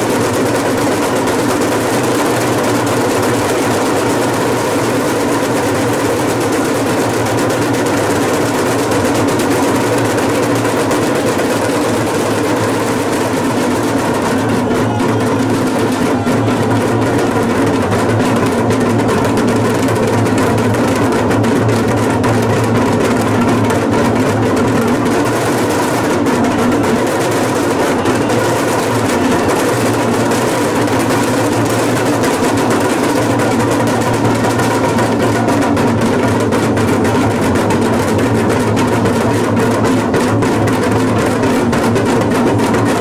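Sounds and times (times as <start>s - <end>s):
hourglass drums rolling: 0.0s - 43.0s.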